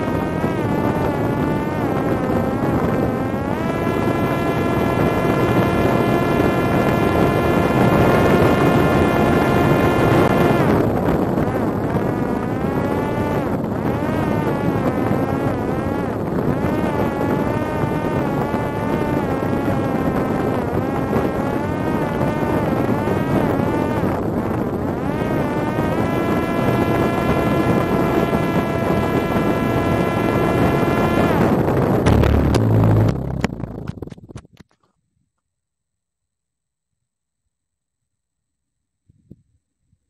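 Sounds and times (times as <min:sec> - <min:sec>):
drone motor and propeller whining: 0:00.0 - 0:34.4
wind on microphone: 0:00.0 - 0:34.6, 0:39.1 - 0:40.0.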